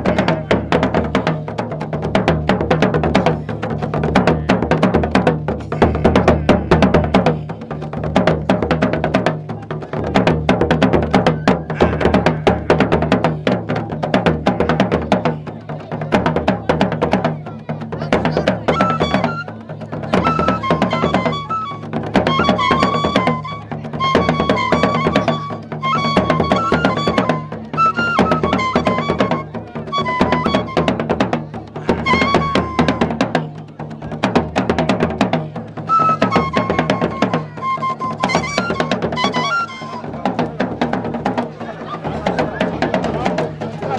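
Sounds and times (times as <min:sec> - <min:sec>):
drums beaten with sticks: 0:00.0 - 0:43.9.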